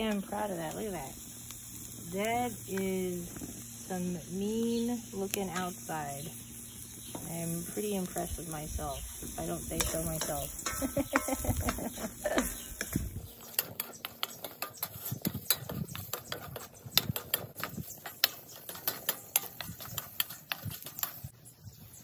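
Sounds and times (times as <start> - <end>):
fire popping: 0.0 - 21.4
charcoal fire crackling: 0.0 - 22.0.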